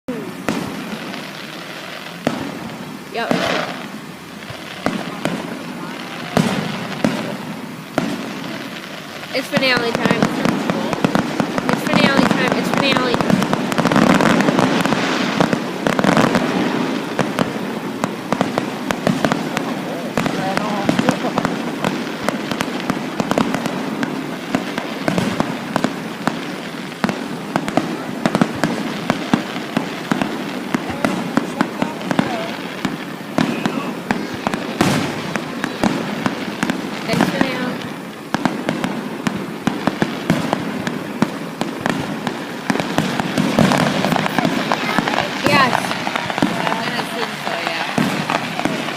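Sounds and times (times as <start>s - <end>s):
continuous rumble: 0.0s - 48.9s
fireworks bangs and crackles: 0.0s - 48.9s.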